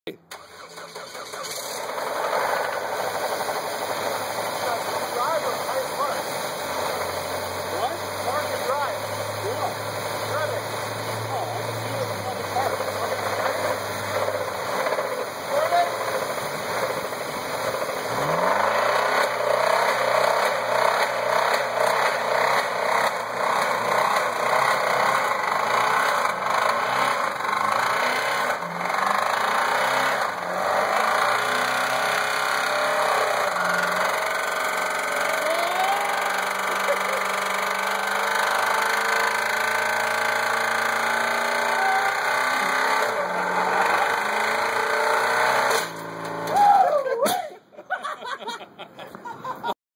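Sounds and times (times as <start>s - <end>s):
car engine revving with knock: 0.4s - 46.6s.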